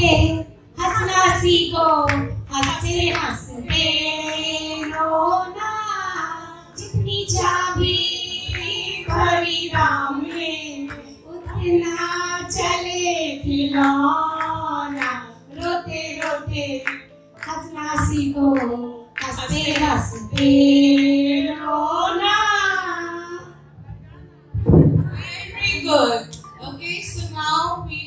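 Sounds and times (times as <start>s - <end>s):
woman singing into microphone: 0.0s - 23.6s, 24.8s - 28.0s.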